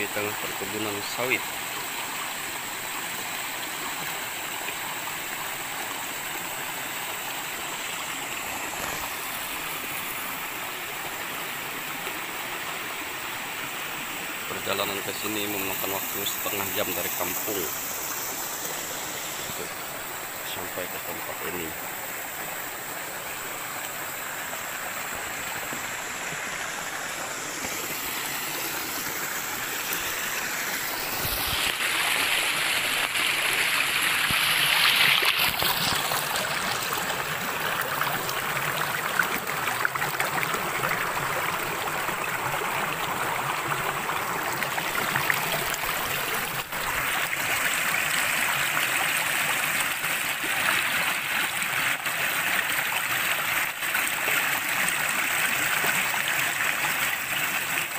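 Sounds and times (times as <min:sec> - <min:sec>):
water rushing over rocks: 0:00.0 - 0:57.9.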